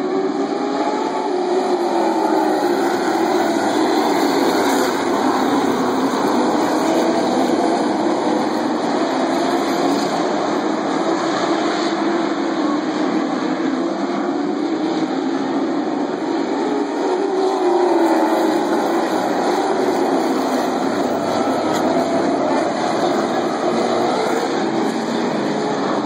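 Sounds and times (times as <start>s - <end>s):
racing car engines: 0.0s - 26.0s.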